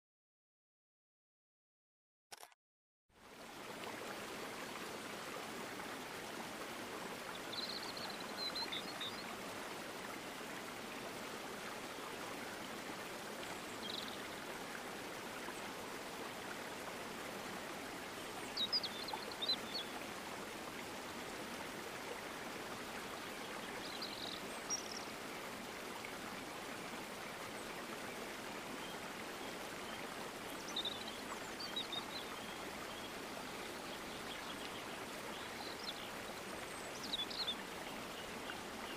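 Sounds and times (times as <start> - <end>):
rushing water: 3.1 - 38.9.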